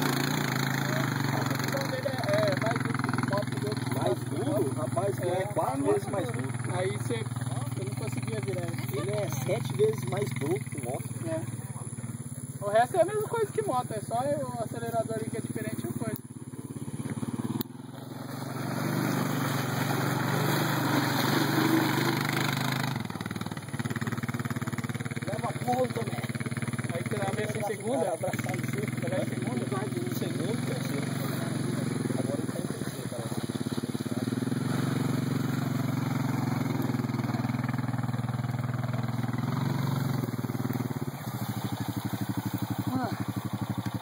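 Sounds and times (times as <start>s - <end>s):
quad bike engine in mud: 0.0s - 44.0s.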